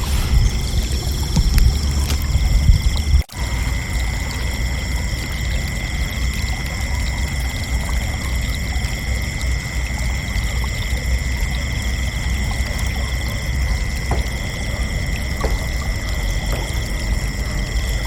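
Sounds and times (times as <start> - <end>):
crickets chirping: 0.0 - 18.0
low rumbling background noise: 0.0 - 18.0.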